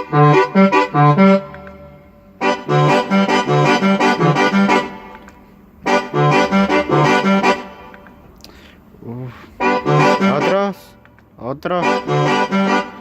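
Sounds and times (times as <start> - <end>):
keyboard accordion oom-pah music: 0.0 - 13.0.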